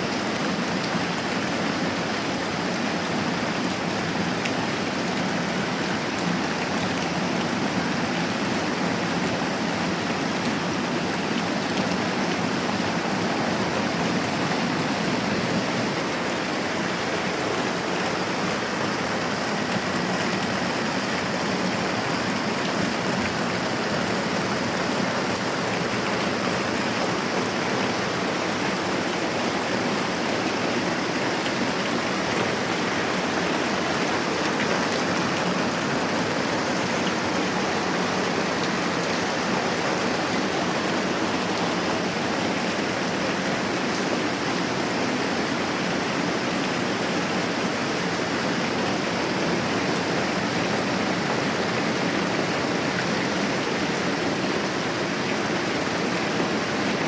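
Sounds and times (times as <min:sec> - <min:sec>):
moderate rain falling: 0:00.0 - 0:57.0.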